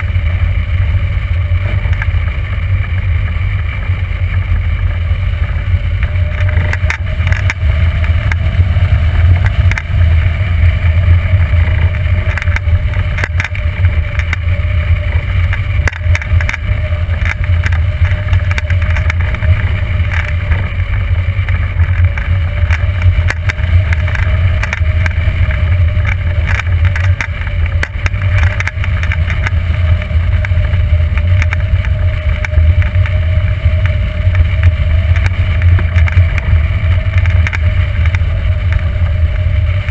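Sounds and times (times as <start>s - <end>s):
wind buffeting microphone: 1.0s - 39.9s.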